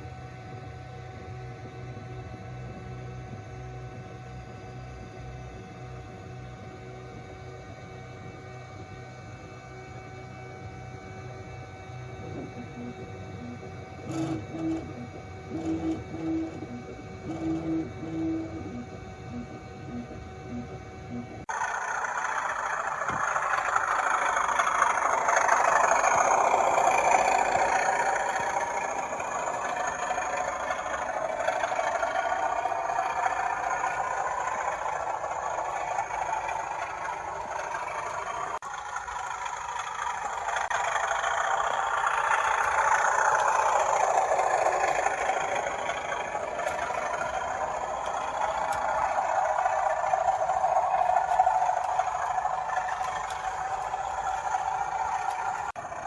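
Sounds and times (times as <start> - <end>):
model train whirring rumble: 0.0 - 56.0.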